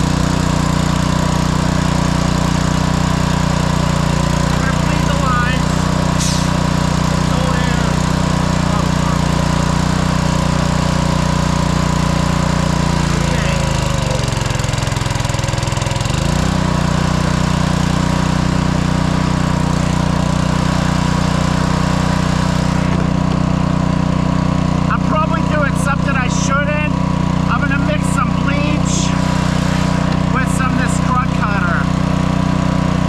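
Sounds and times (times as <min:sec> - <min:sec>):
pressure washer engine running: 0:00.0 - 0:33.0.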